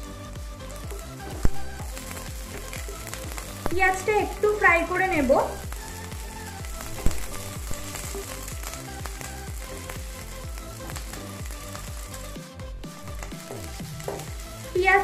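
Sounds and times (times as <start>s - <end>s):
background music with steady beat: 0.0s - 15.0s
food sizzling in hot oil: 0.0s - 15.0s.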